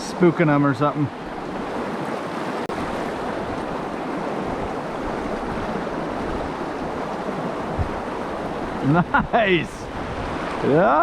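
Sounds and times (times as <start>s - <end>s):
mountain stream rushing: 0.0s - 11.0s
wind on microphone: 1.4s - 11.0s.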